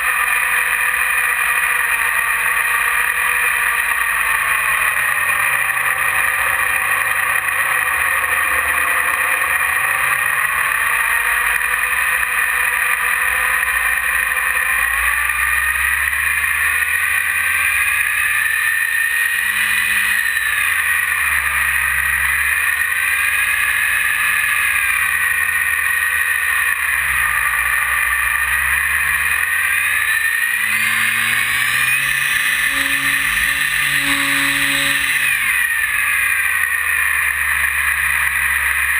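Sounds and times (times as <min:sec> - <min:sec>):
electric motor and propeller whining: 0:00.0 - 0:38.9.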